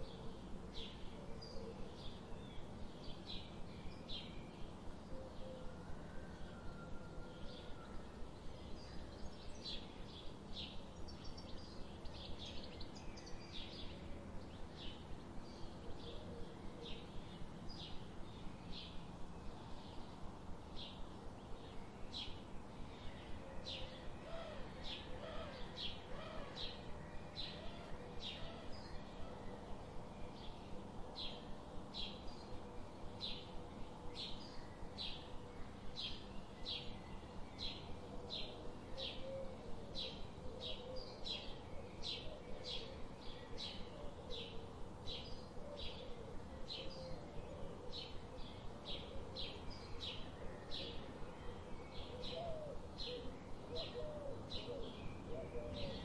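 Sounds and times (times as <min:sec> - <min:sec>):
soft steady hiss: 0:00.0 - 0:56.0.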